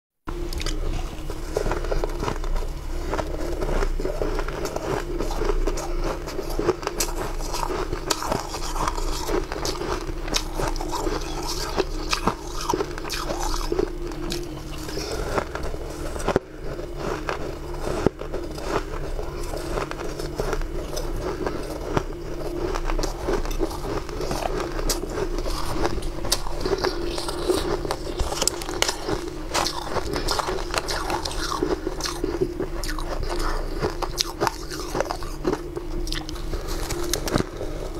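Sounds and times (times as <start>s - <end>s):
crunching ice being chewed: 0.3s - 37.9s.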